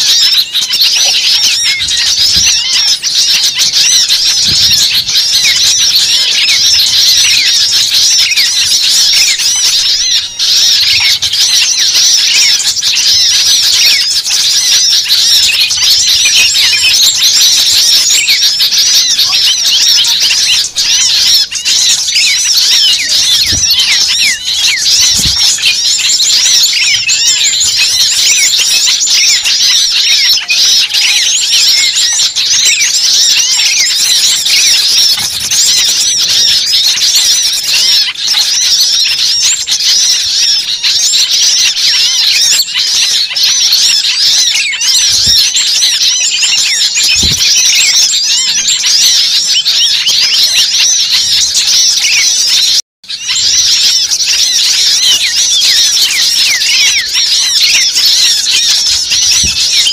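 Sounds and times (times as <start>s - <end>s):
flock of songbirds chirping: 0.0s - 59.9s.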